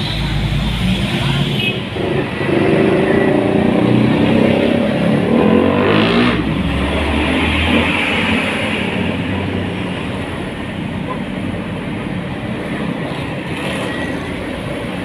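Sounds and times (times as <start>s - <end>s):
motorcycle engines: 0.0s - 15.0s.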